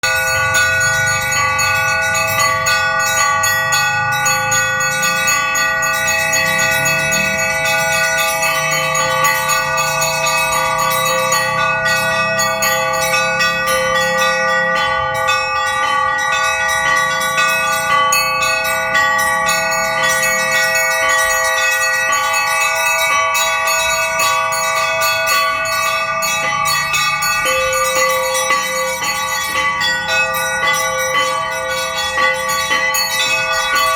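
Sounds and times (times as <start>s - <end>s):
medium bells ringing: 0.0s - 33.9s
small treble bells ringing rapidly: 0.0s - 33.9s.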